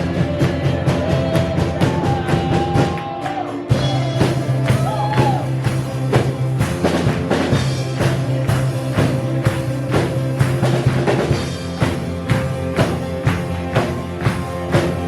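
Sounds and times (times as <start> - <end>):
bass line: 0.0 - 15.0
drum kit beat: 0.0 - 15.0.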